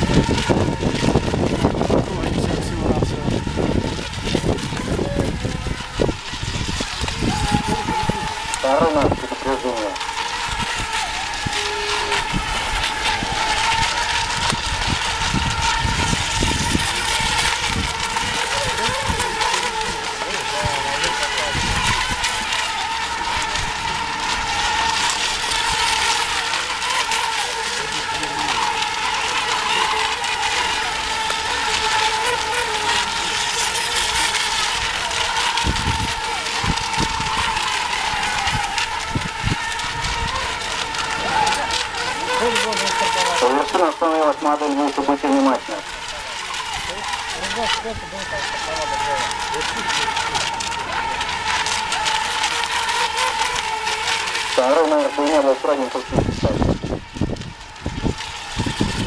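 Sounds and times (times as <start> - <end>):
wind buffeting microphone: 0.0 - 44.4, 56.0 - 59.0
rc boats high whine: 0.0 - 59.0.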